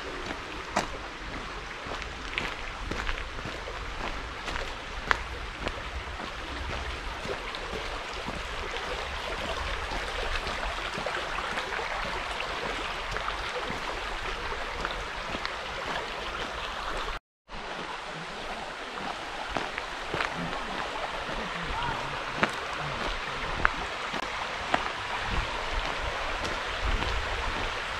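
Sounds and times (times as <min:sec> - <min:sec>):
stream rushing over stones: 0:00.0 - 0:27.9.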